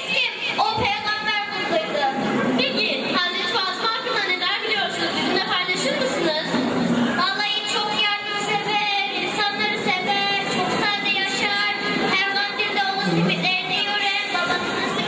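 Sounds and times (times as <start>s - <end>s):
voices talking and singing: 0.0s - 15.0s.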